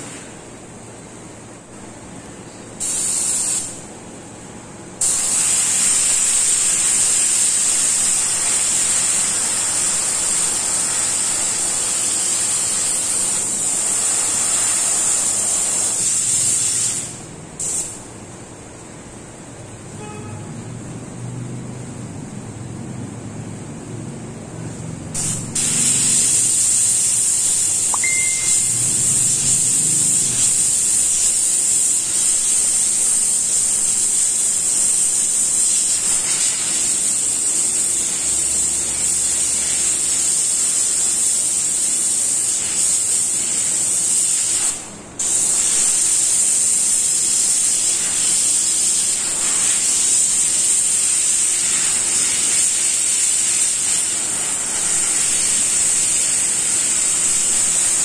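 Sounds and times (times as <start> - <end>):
airbrush spraying hiss: 2.8 - 3.8, 5.0 - 18.0, 25.2 - 58.0.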